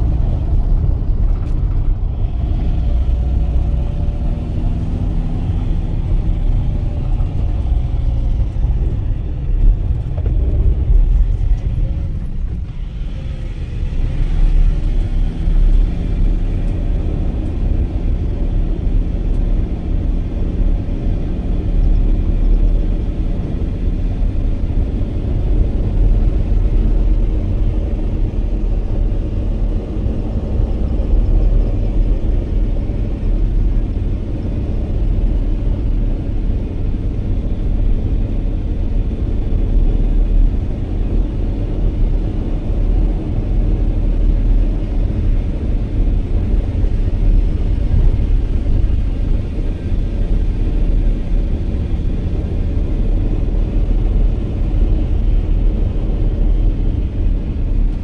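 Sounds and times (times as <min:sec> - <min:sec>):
moving vehicle rumble: 0:00.0 - 0:58.0.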